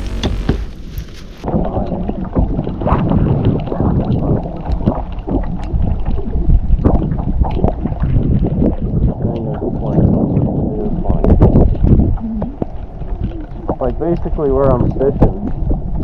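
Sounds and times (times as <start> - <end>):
water slapping: 0.0 - 16.0
wind buffeting microphone: 0.0 - 16.0.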